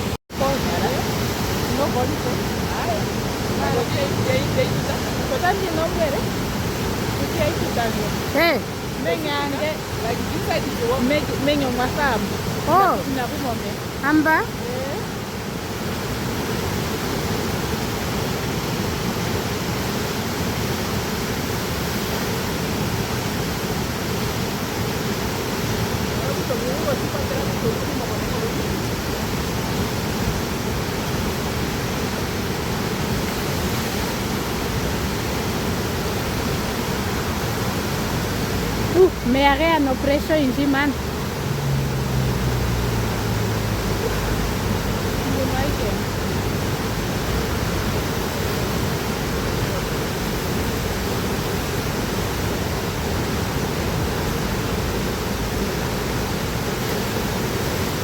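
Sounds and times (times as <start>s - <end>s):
fast-flowing water rushing: 0.0s - 58.0s.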